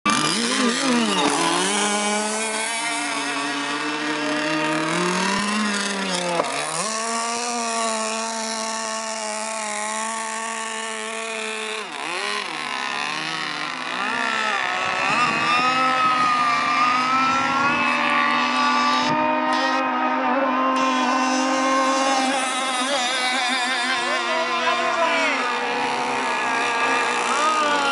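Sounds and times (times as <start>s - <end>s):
model boat motor drone: 0.1s - 27.9s.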